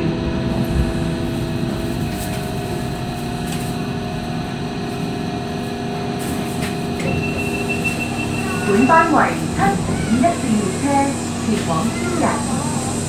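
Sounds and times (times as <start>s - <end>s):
steady whine: 0.0s - 13.0s
tram hum and rumble: 0.0s - 13.0s.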